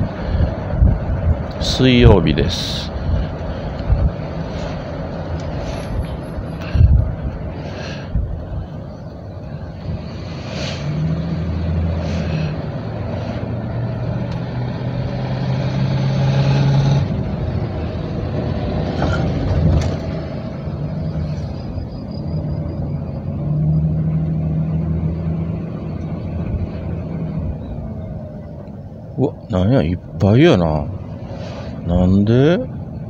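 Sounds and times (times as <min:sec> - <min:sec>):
road noise: 0:00.0 - 0:33.0
van engine running: 0:00.0 - 0:33.0.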